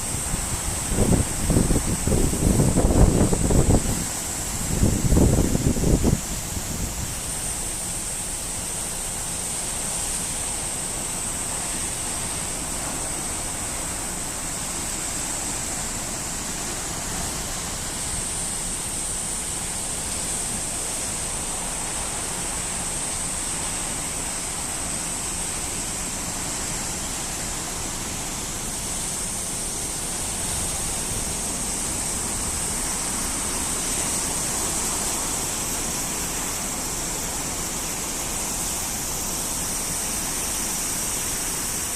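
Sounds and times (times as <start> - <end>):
continuous high hiss: 0.0 - 41.9.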